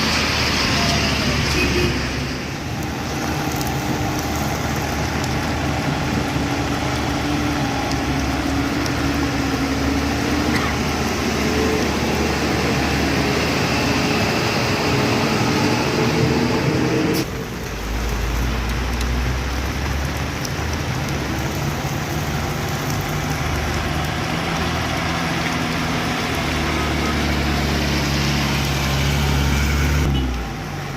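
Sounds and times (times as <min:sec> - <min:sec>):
road and wind noise: 0:00.0 - 0:30.9.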